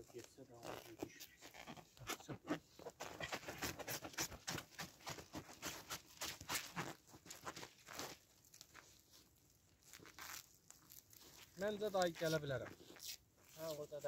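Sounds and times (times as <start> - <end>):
plastic stretch film crackling: 0.0 - 3.4, 5.6 - 14.0.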